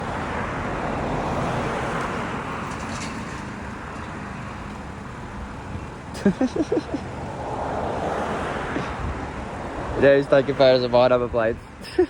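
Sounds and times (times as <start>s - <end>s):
vehicle passing: 0.0s - 11.4s.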